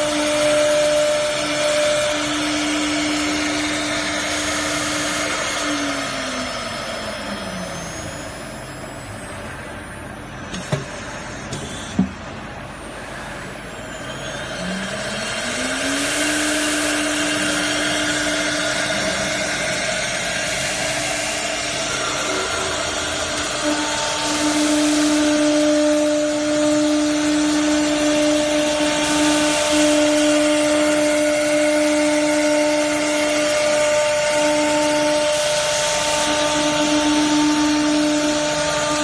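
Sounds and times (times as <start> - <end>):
router spindle whine: 0.0 - 39.0.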